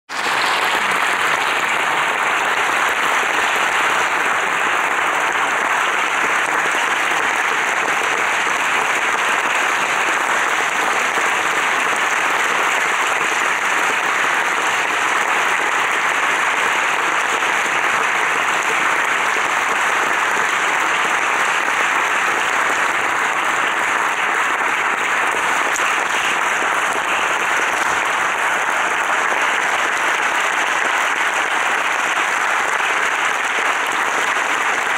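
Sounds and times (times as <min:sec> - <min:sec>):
audience applauding: 0:00.1 - 0:34.9.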